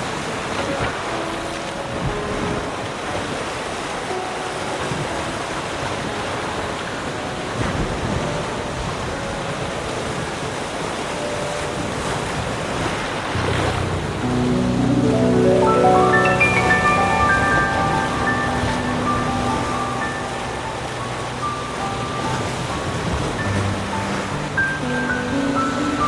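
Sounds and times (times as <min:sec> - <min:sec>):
ocean surf washing in: 0:00.0 - 0:26.0
wind: 0:00.0 - 0:26.0.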